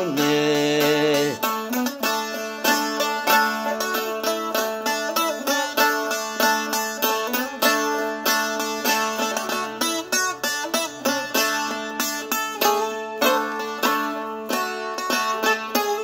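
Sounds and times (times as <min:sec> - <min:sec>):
plucked lute melody: 0:00.0 - 0:16.0.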